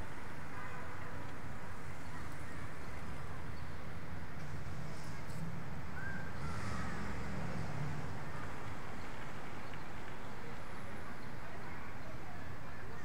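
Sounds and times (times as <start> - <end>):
low urban background rumble: 0.0 - 13.0.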